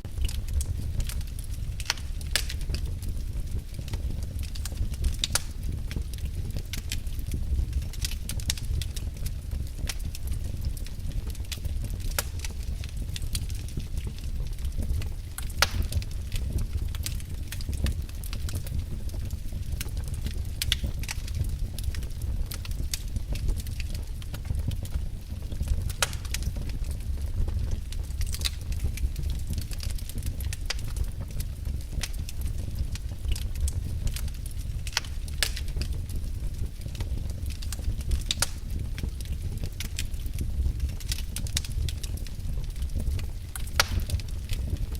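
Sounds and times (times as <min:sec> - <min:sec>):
low steady rumble: 0:00.0 - 0:44.9
wood fire crackling and popping: 0:00.0 - 0:44.9.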